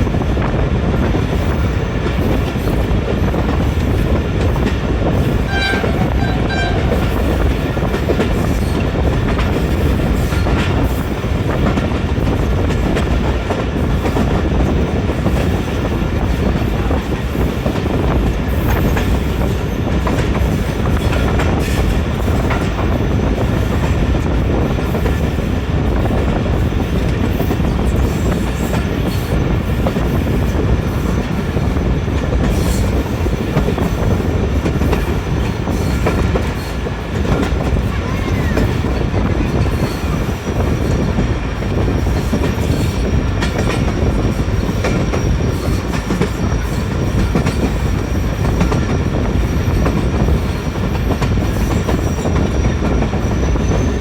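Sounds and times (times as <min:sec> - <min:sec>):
clickety-clack of rail joints: 0:00.0 - 0:54.0
train wheels rumbling on rails: 0:00.0 - 0:54.0.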